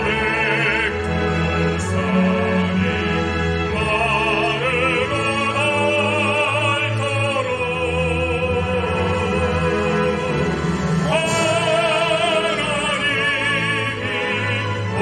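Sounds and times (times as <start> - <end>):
operatic solo singing: 0.0 - 15.0
orchestral accompaniment: 0.0 - 15.0.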